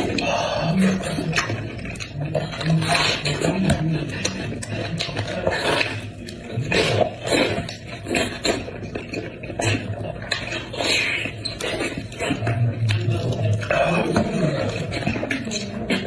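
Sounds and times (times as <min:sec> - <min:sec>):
wet chewing and smacking: 0:00.0 - 0:16.0.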